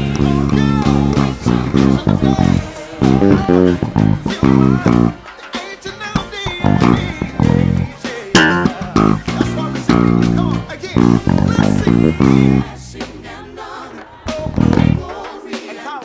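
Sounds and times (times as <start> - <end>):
electric bass playing quick runs: 0.0 - 5.3, 5.9 - 15.2
gospel band playing: 0.0 - 16.0.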